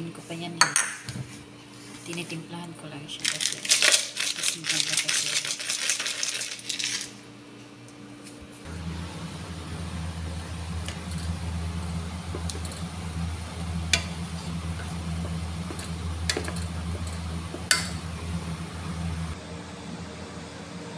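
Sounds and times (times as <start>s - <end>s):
low mechanical hum: 0.0s - 20.9s.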